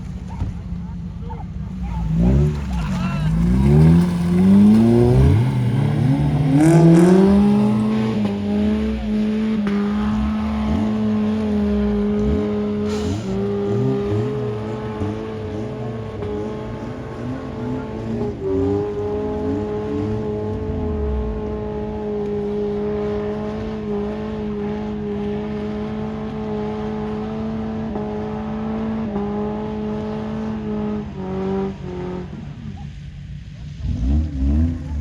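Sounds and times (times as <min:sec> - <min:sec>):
off-road vehicle engines revving: 0:00.0 - 0:35.0.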